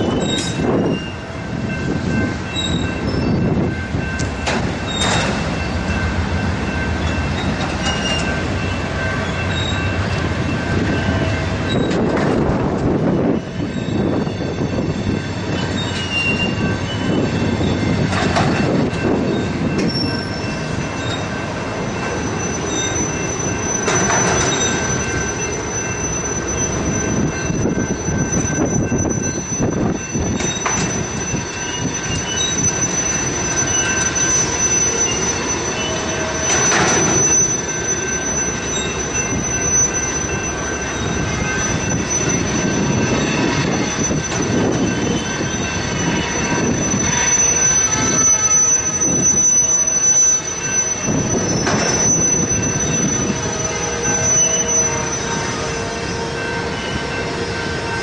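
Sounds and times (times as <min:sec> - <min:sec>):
high wheel squeal: 0:00.0 - 0:58.0.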